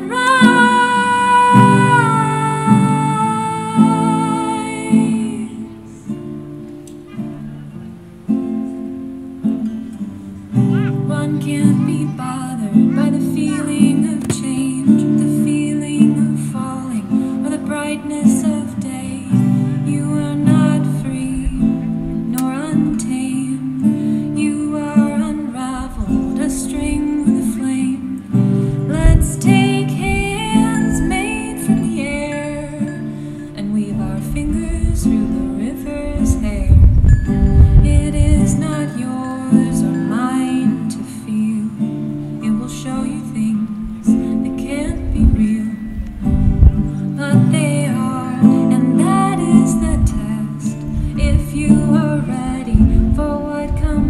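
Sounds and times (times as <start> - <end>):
guitar plucked and strummed: 0.0 - 54.0.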